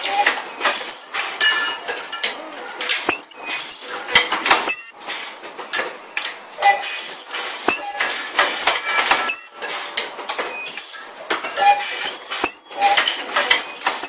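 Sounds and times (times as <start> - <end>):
parts and tooling clattering: 0.0 - 14.0.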